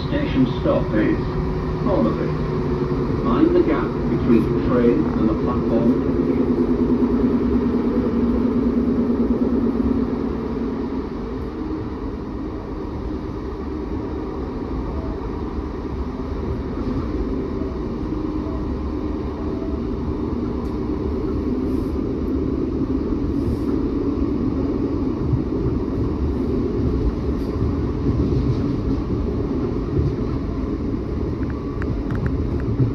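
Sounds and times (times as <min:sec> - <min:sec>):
train diesel engine drone: 0:00.0 - 0:32.9.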